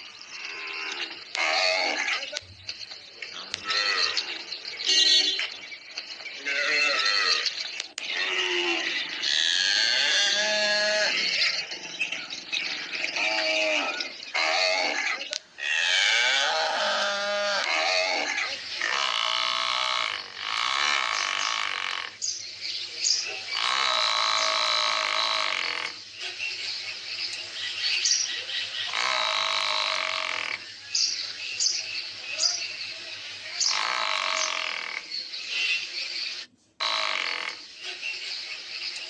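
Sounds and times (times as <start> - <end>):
farm animals calling: 0.0 - 39.0.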